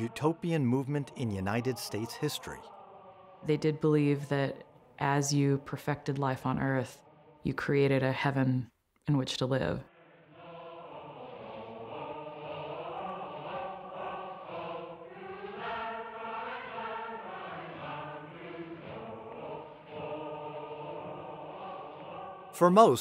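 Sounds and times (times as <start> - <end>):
choir singing a chant-like hymn: 0.0 - 8.5, 9.7 - 23.0.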